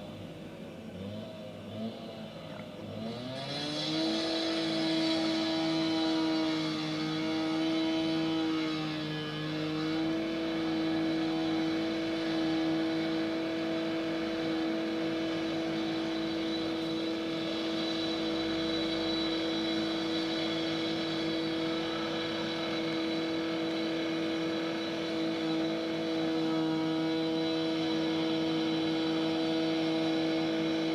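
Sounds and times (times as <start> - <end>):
road construction machine whine: 0.0 - 30.9.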